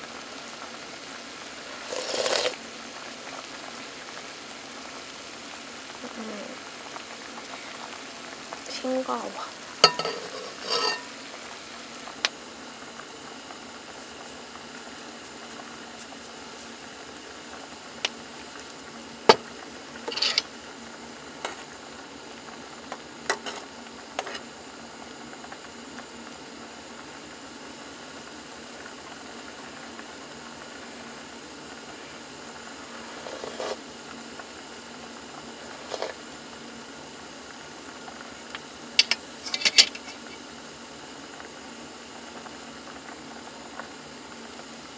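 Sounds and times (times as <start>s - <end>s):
food sizzling in a pan: 0.0s - 44.9s.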